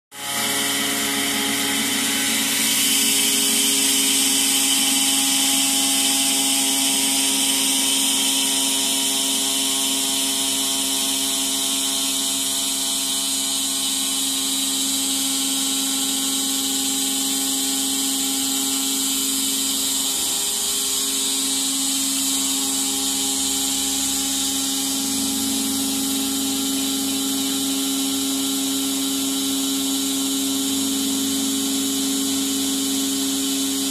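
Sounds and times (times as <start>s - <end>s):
mechanical whine: 0.1s - 33.9s.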